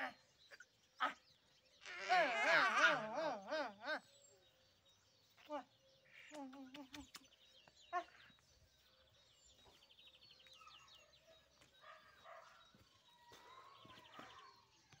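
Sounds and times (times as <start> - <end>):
faint songbirds trilling: 0.0 - 15.0.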